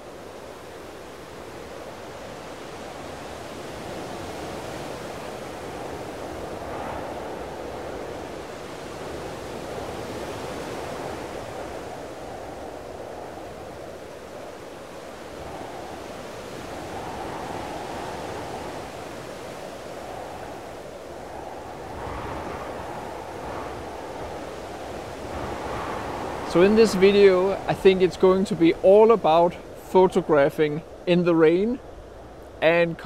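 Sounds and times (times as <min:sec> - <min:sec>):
sea surf on rocky shore: 0:00.0 - 0:33.0
wind: 0:00.0 - 0:33.0.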